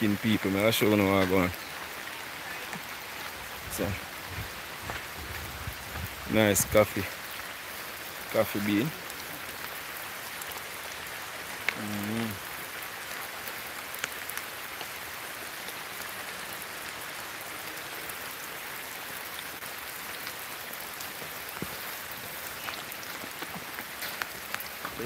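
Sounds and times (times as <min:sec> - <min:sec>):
rain falling on leaves: 0:00.0 - 0:25.0.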